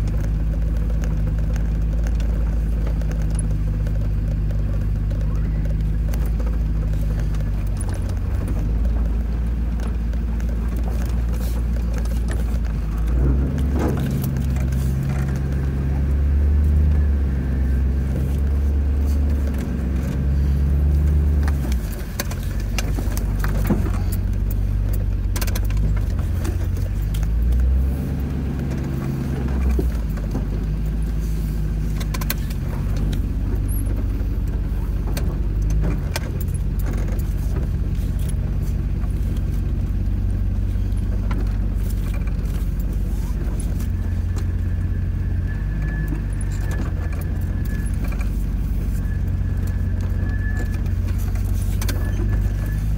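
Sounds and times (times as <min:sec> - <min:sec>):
clicks and rattles: 0:00.0 - 0:52.9
engine running at low speed: 0:00.0 - 0:52.9.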